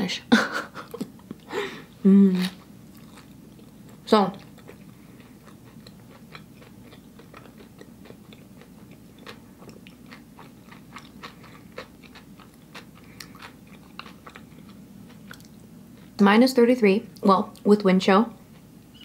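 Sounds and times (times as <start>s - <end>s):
person chewing food: 0.8s - 16.2s.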